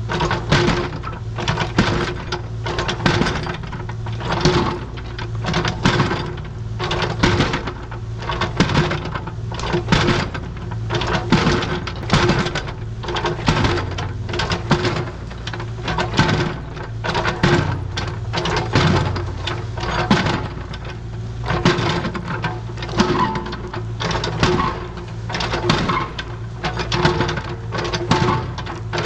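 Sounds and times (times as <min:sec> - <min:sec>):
construction machine engine running: 0:00.0 - 0:29.0
fast mechanical clatter: 0:00.0 - 0:29.0.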